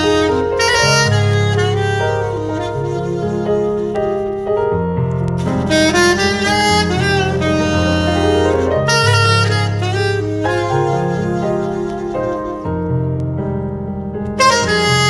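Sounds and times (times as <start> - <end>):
soprano saxophone melody: 0.0 - 13.6, 14.3 - 15.0
keyboard chords: 0.0 - 15.0.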